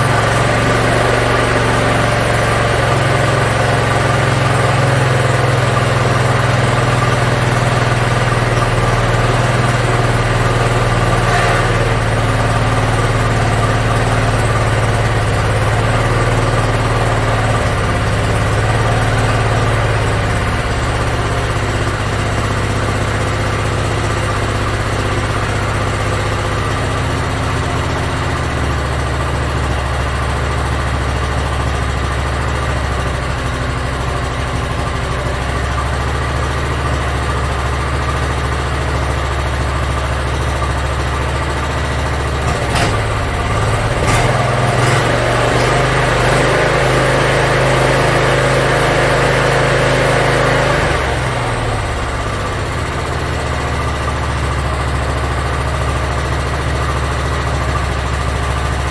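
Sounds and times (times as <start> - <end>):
riding mower engine: 0.0 - 58.9.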